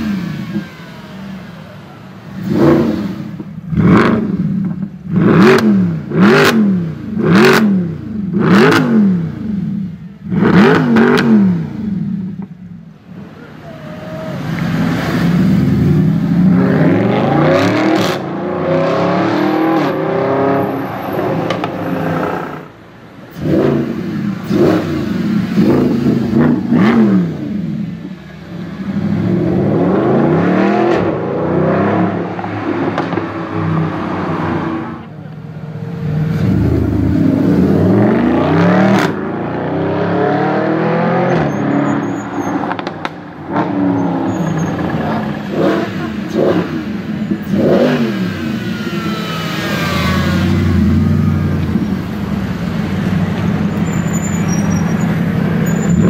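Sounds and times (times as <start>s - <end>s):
car engine revving and accelerating: 2.2s - 12.2s, 14.3s - 22.7s, 23.3s - 35.1s, 36.0s - 53.6s.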